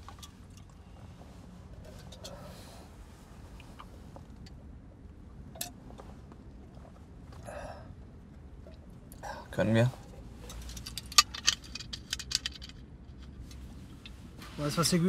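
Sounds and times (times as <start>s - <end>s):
low car interior rumble: 0.0s - 15.0s.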